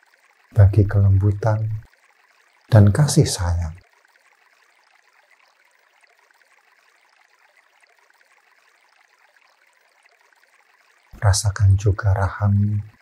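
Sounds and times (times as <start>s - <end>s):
faint stream flowing: 0.0s - 13.0s.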